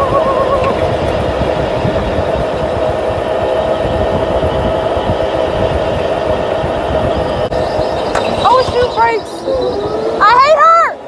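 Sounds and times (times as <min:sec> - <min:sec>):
go-kart motor droning: 0:00.0 - 0:11.0.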